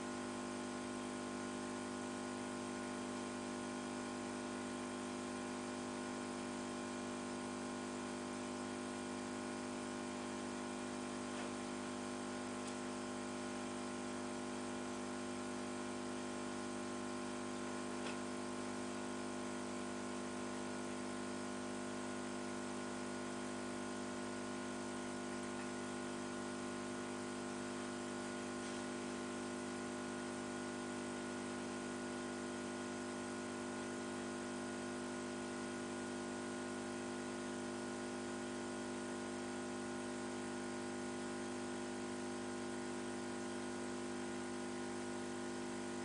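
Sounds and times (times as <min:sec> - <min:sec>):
electric air pump humming: 0:00.0 - 0:46.0.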